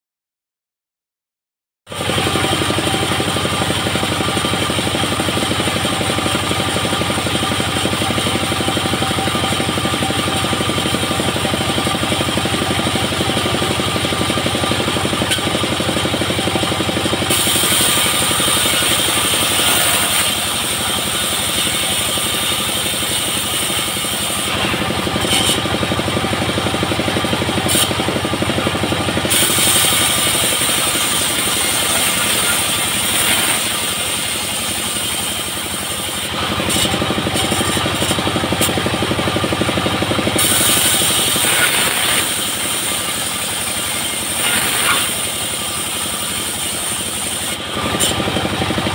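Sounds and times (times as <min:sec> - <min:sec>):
diesel engine running: 0:01.9 - 0:48.9
saw blade hissing through log: 0:02.4 - 0:26.8, 0:27.5 - 0:28.2, 0:29.0 - 0:38.9, 0:40.2 - 0:48.8.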